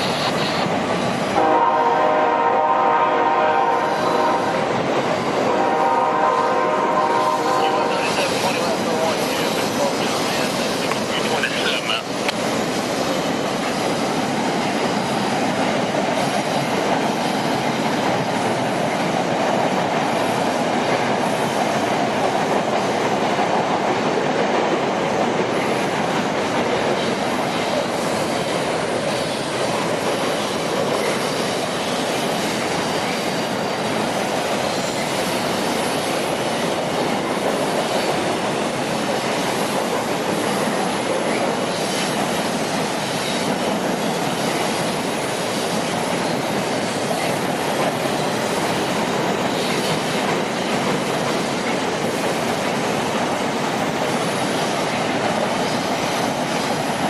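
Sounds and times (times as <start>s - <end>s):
train wheels on track: 0.0s - 57.0s.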